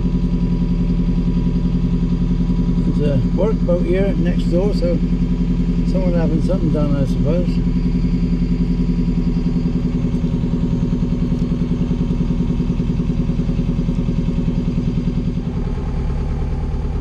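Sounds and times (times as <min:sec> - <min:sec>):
boat diesel engine throbbing: 0:00.0 - 0:17.0.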